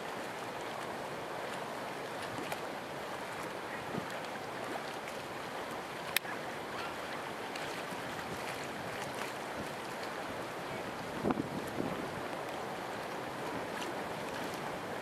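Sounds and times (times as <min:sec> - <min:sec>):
lake water rippling: 0:00.0 - 0:15.0.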